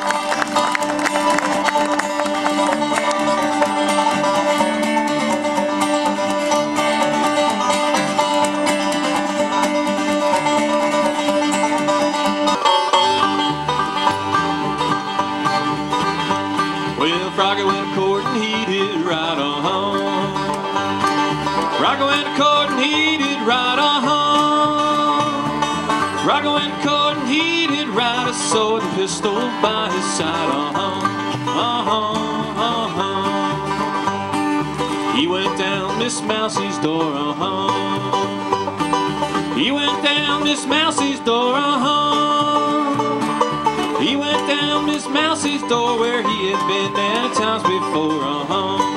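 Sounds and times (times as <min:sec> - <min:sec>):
banjo picking: 0:00.0 - 0:48.9
plucked upright bass: 0:00.0 - 0:48.9
strummed acoustic guitar: 0:00.0 - 0:48.9.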